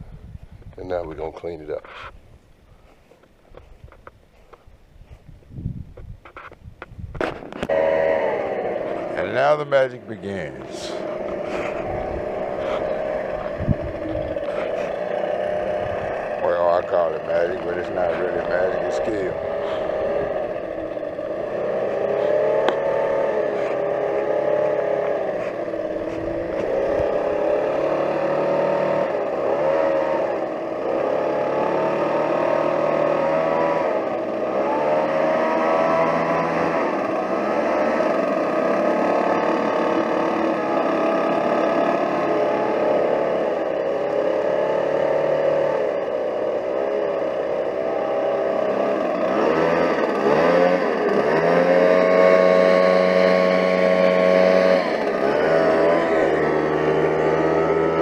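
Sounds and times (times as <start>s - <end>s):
leaf blower engine revving: 7.2s - 58.0s.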